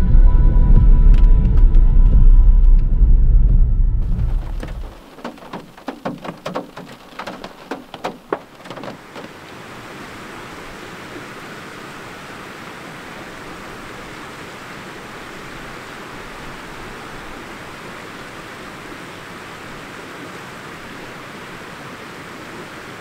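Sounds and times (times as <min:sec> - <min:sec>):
wind and rain hiss: 0:03.9 - 0:23.0.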